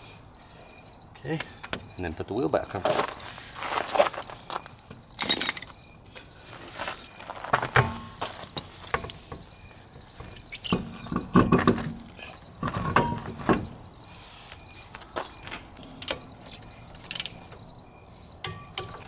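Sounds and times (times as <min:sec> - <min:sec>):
metal clinks and scuffs: 0:02.8 - 0:19.0.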